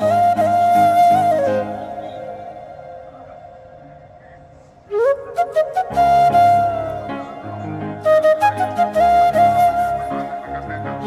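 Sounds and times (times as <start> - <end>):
flute melody: 0.0 - 11.0.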